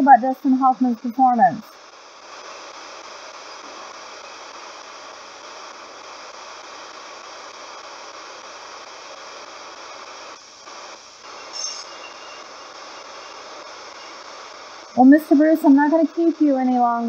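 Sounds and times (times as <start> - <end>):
radio static hissing: 0.0 - 17.0.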